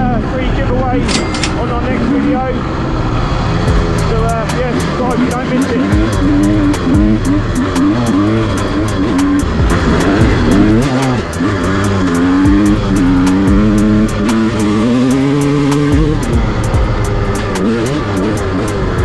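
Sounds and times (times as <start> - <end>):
two-stroke engine revving: 0.0 - 19.0
background music with steady beat: 3.6 - 19.0.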